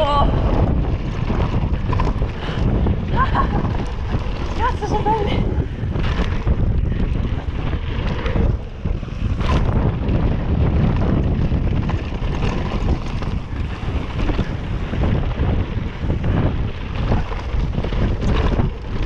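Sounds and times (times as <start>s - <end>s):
bike knocks and rattles: 0.0s - 19.0s
bike tyres on dirt: 0.0s - 19.0s
wind on camera microphone: 0.0s - 19.0s.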